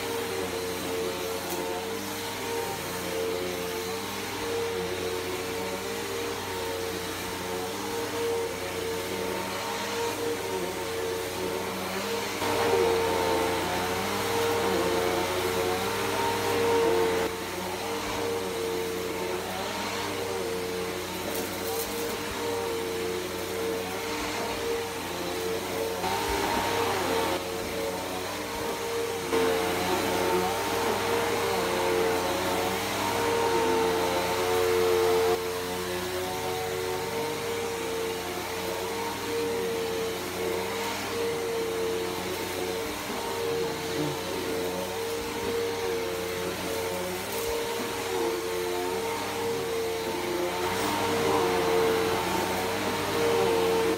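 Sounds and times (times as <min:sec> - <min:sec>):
vacuum cleaner running on carpet: 0:00.0 - 0:53.9.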